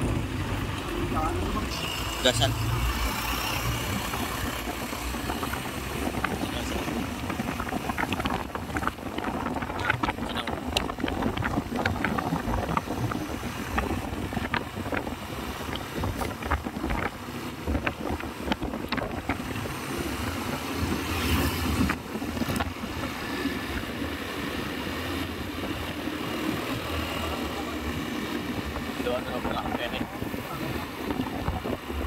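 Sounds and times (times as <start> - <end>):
road traffic rumble: 0.0 - 32.0
wind buffeting microphone: 0.0 - 32.0.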